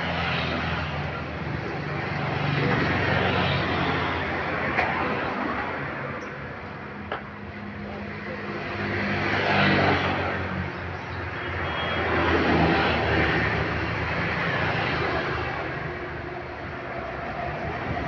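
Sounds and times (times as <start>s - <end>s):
heavy vehicles passing: 0.0s - 18.0s.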